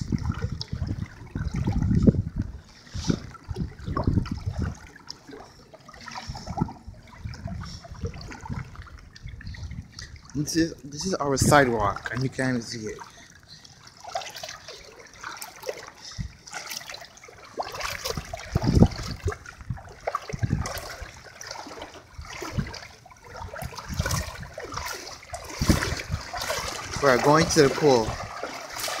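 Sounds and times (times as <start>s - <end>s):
water splashing around wading legs: 0.0s - 29.0s.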